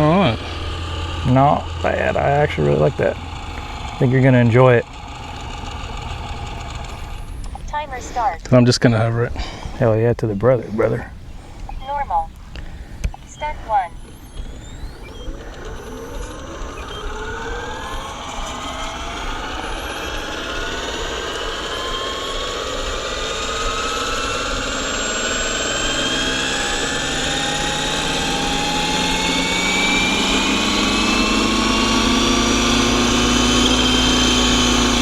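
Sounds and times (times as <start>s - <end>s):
rc helicopter motor whine: 0.0s - 10.1s, 10.8s - 35.0s
helicopter rotor spinning: 0.0s - 35.0s.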